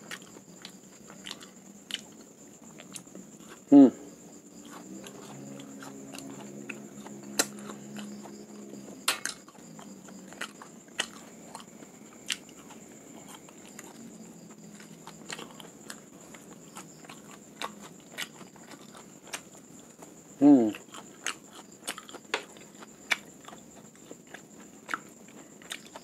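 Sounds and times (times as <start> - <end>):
mouth chewing with crunches: 0.0 - 26.0.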